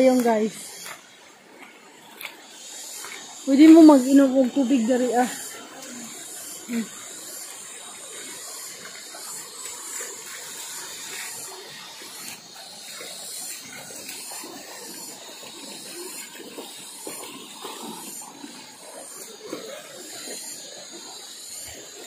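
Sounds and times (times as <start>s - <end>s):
river running over stones: 0.0s - 22.0s.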